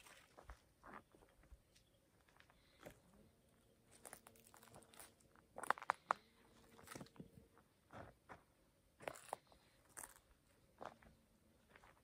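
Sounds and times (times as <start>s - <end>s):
footsteps crunching on path: 0.0s - 3.2s, 3.8s - 12.0s.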